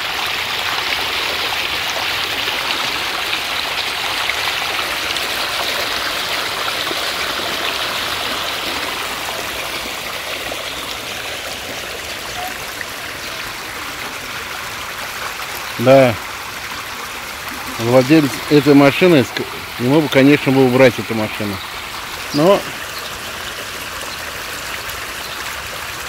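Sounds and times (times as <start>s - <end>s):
water rushing and splashing: 0.0s - 26.0s.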